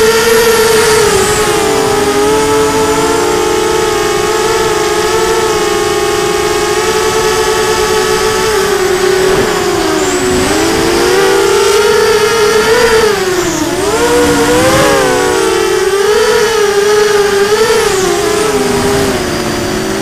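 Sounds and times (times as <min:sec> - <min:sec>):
quadcopter motors humming: 0:00.0 - 0:20.0.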